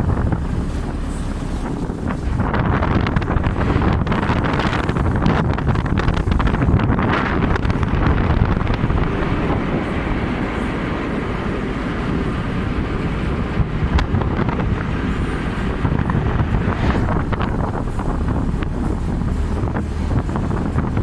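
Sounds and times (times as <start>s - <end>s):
steady low rumble: 0.0s - 21.0s
wind buffeting microphone: 0.0s - 21.0s.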